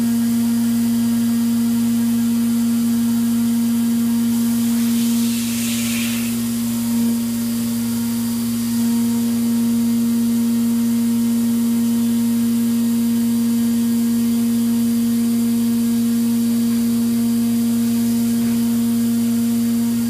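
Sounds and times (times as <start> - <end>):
milling machine humming: 2.4 - 20.0.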